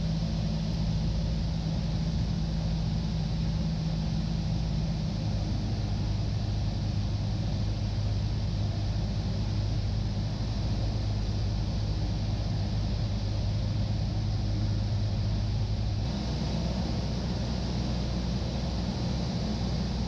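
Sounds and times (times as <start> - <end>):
airflow hiss: 0.0 - 20.0
propeller plane engine droning: 0.0 - 20.0.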